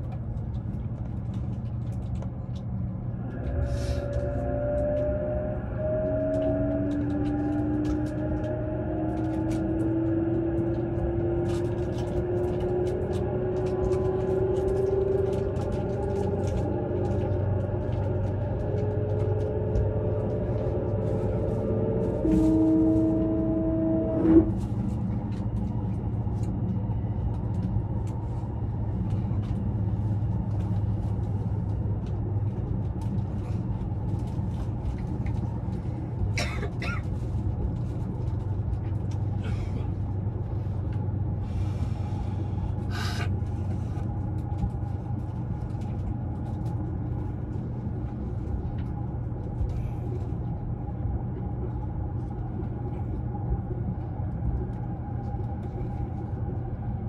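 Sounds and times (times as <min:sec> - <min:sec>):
train interior rumble and hum: 0:00.0 - 0:57.0.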